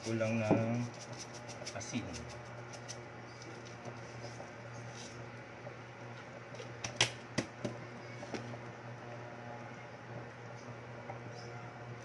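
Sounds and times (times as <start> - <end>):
induction cooker humming: 0.0 - 12.0.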